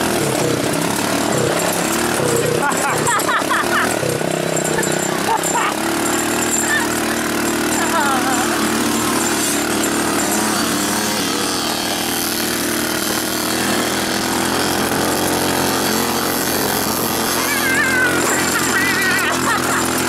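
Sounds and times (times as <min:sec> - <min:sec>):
dirt bike engine: 0:00.0 - 0:20.0
utv engine running: 0:00.0 - 0:20.0.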